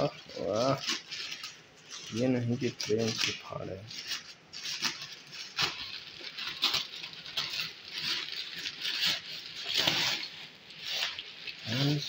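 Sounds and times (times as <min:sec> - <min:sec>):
plastic mailer bag crinkling: 0:00.0 - 0:12.0
scissors cutting plastic: 0:00.0 - 0:12.0.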